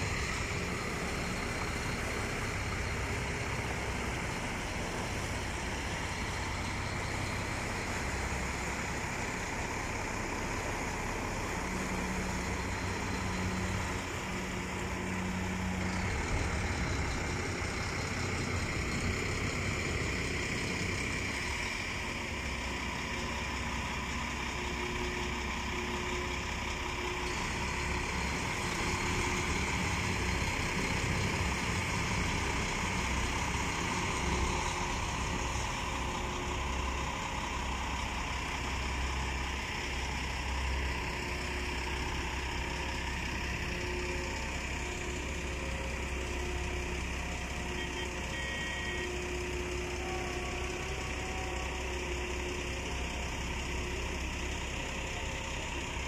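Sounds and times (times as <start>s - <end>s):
boat engine rumbling: 0.0s - 56.0s.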